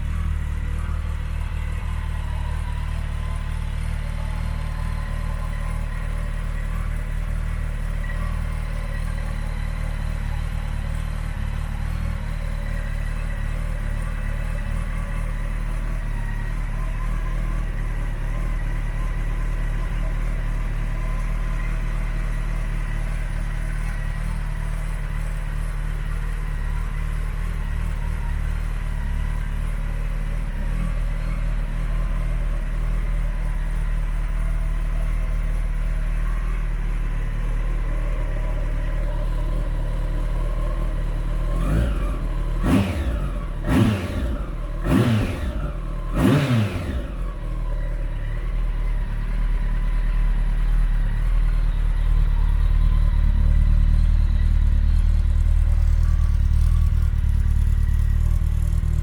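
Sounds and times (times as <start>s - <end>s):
motorcycle engine idling: 0.0s - 59.0s
motorcycle throttle revs: 0.0s - 59.0s.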